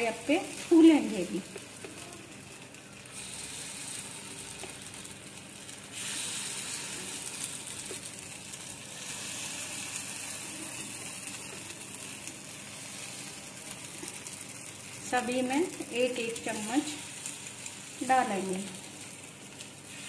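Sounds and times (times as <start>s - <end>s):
batter sizzling in hot oil: 0.0s - 20.0s.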